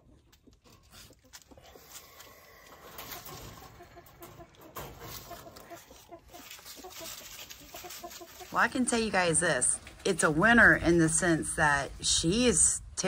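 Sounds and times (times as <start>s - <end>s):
hens clucking: 0.0s - 11.1s.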